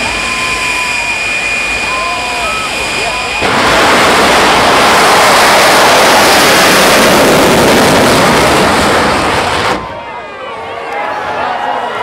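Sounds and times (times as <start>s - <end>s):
jet engine roaring: 0.0s - 10.3s.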